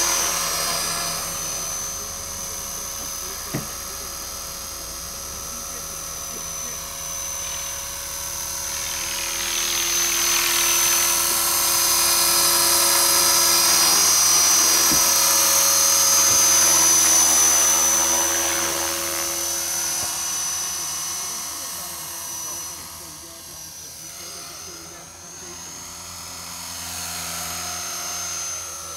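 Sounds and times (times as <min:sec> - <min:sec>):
rc helicopter motor whine: 0:00.0 - 0:28.9.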